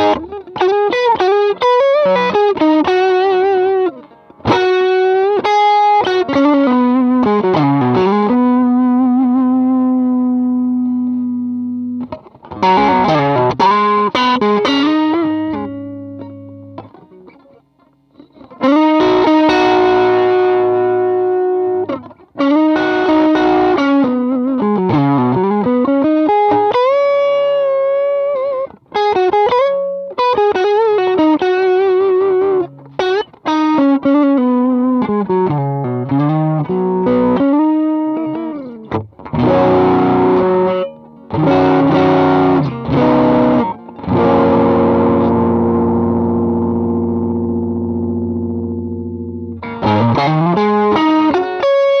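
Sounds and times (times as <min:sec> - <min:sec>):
distorted electric guitar: 0:00.0 - 0:52.0.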